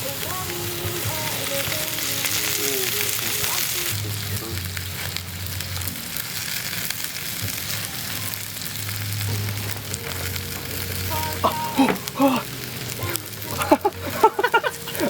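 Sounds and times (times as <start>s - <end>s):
steak sizzling in a pan: 0.0s - 15.0s.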